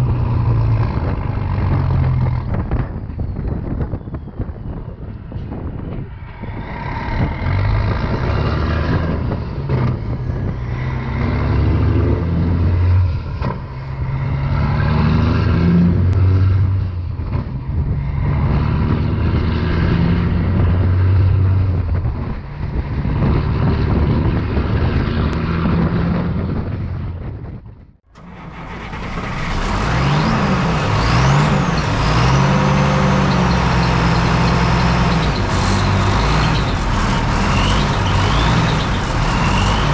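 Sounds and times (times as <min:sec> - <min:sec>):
diesel truck engine revving: 0:00.0 - 0:03.0, 0:05.5 - 0:26.9, 0:28.1 - 0:39.9.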